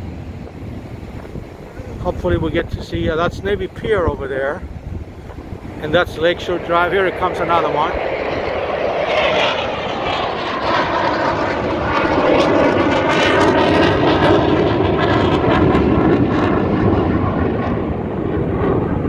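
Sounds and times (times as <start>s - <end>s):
military jet flying past: 0.0s - 19.0s.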